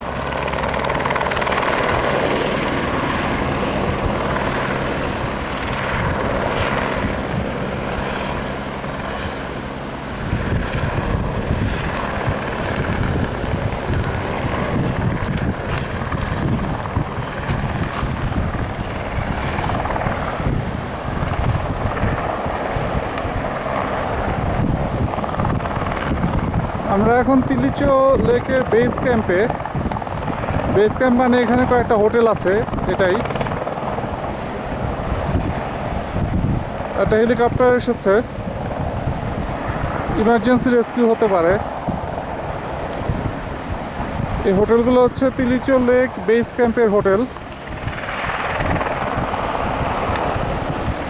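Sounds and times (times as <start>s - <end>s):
helicopter rotor drone: 0.0s - 51.0s
wind on microphone: 0.0s - 51.0s.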